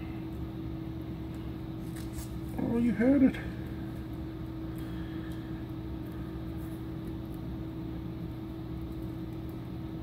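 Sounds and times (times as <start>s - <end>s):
machine hum with low rumble: 0.0s - 10.0s.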